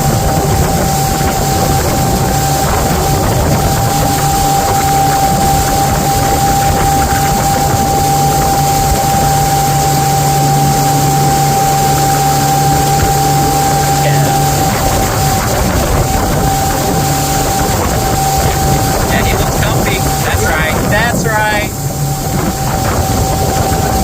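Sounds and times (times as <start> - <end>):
motorboat engine running: 0.0 - 24.0
whine-like tone: 1.6 - 24.0.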